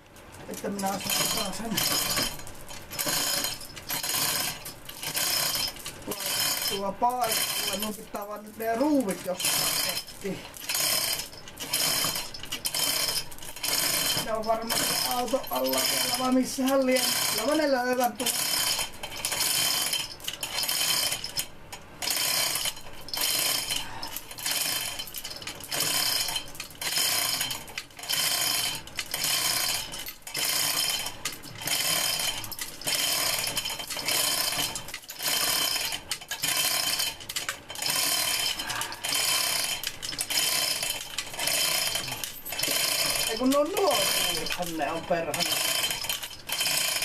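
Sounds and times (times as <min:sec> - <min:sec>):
screws clinking and rattling: 0:00.4 - 0:47.0.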